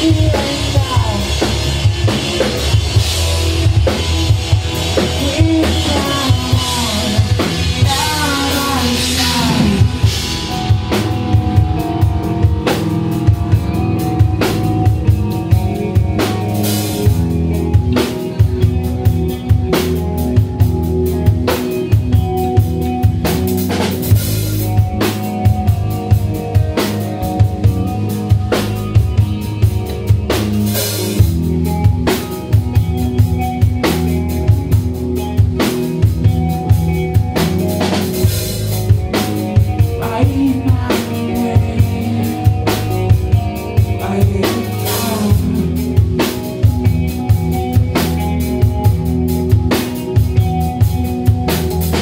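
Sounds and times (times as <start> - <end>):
drum kit beating: 0.0 - 52.0
electric bass: 0.0 - 52.0
electric guitar sliding notes: 0.0 - 52.0.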